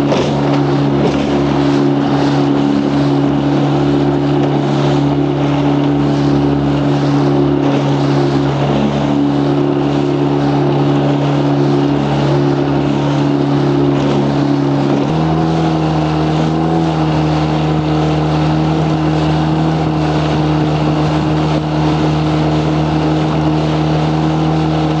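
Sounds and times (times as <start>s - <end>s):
outboard motor running: 0.0s - 25.0s
water noise: 0.0s - 25.0s.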